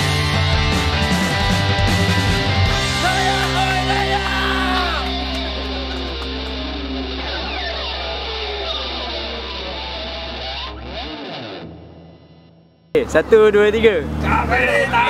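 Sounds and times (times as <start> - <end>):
punk rock electric guitar: 0.0 - 12.5.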